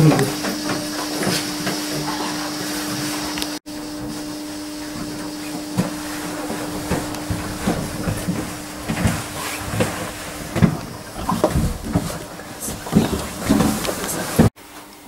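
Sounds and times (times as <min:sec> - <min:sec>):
fan-like hum: 0:00.0 - 0:15.0.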